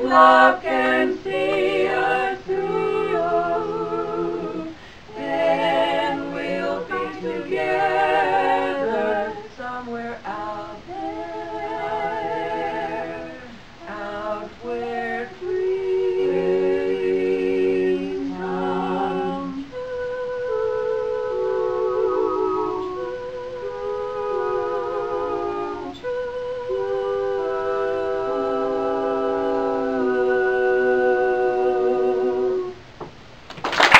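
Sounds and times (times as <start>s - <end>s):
women singing a cappella: 0.0s - 32.9s.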